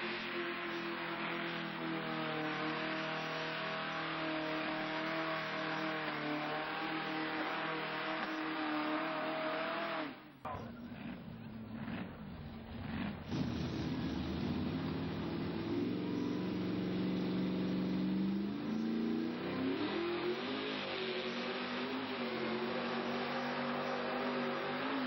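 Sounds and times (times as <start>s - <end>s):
second truck engine revving: 0.0s - 25.0s
truck engine revving high: 0.0s - 25.0s.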